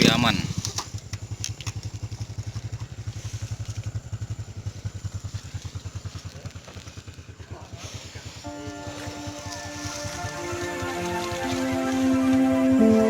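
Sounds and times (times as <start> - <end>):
motorbike engine idling: 0.0 - 13.0.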